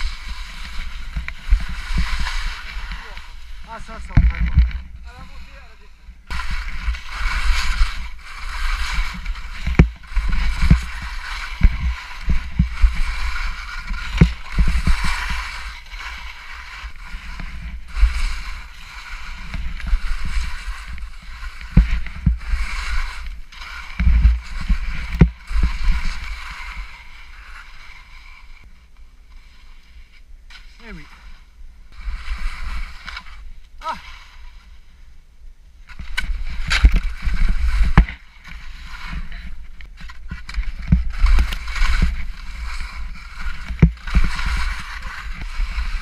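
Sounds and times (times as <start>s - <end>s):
skis scraping over snow: 0.0s - 46.0s.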